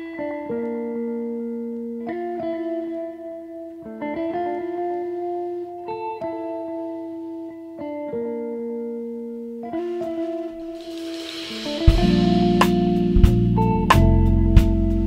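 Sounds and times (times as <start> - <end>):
guitar plucking slow chords: 0.0 - 15.0.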